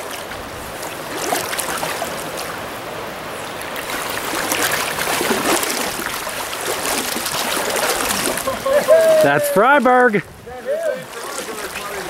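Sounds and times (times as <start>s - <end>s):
legs splashing through water: 0.0s - 2.8s, 3.5s - 12.0s
river current running: 0.0s - 12.0s.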